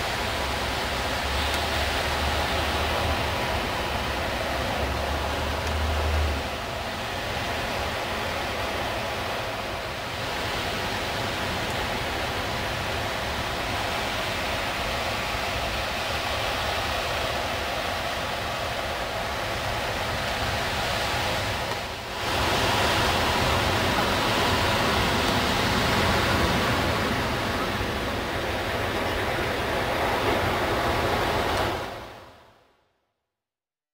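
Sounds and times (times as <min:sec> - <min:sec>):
sea surf breaking: 0:00.0 - 0:32.6.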